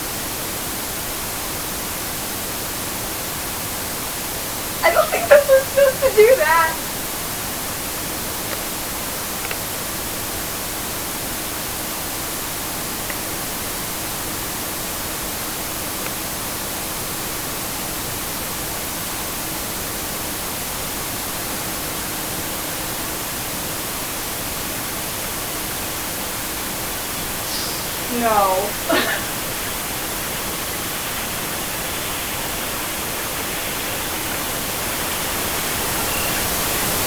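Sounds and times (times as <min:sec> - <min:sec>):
white noise static hiss: 0:00.0 - 0:37.0.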